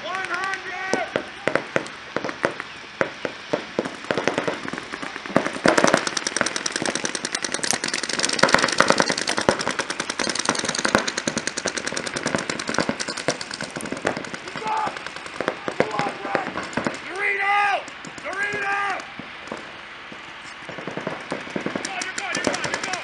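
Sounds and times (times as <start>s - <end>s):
paintball markers firing: 0.0s - 23.0s.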